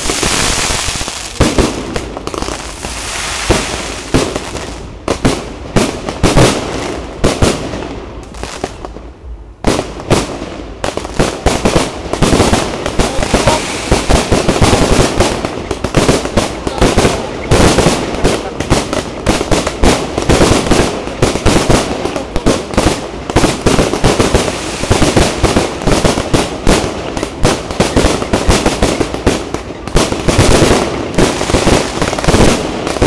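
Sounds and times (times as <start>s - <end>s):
firework sparks hissing: 0.0s - 4.8s, 11.2s - 33.0s
firework bangs: 0.0s - 9.0s, 9.6s - 33.0s
fireworks crackling: 0.0s - 33.0s.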